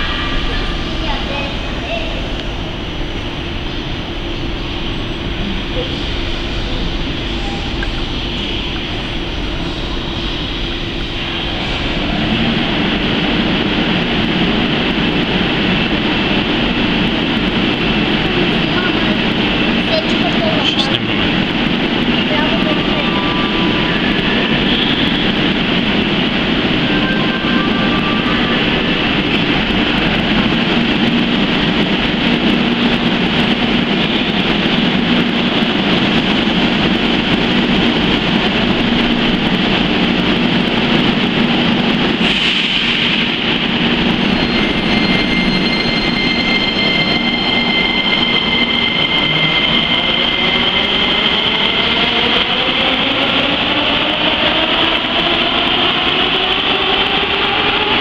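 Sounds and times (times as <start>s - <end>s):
metro train humming: 0.0s - 58.0s.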